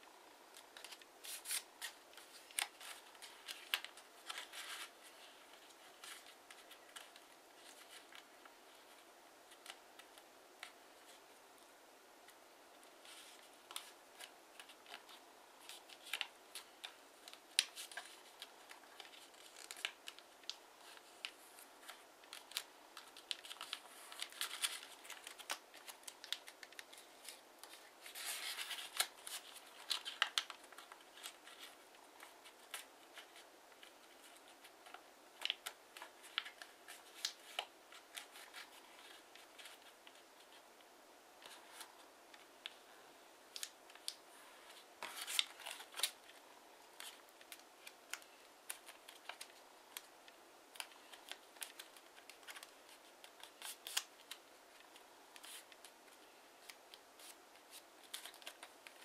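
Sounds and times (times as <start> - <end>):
paper being folded and creased: 0.6 - 11.2, 12.8 - 40.6, 43.5 - 50.1, 50.7 - 59.0.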